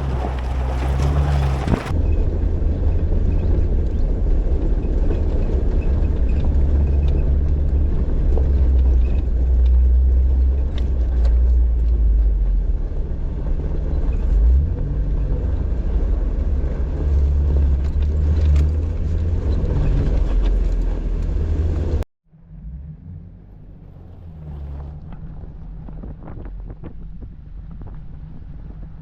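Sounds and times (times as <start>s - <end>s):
engine and drivetrain rumble: 0.0s - 29.0s.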